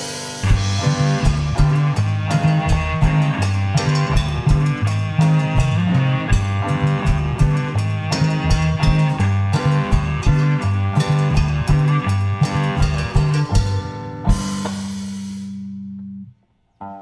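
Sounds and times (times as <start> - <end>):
drum kit beat: 0.0 - 15.7
bass: 0.0 - 17.0
guitar: 0.0 - 17.0
cello: 0.4 - 14.9.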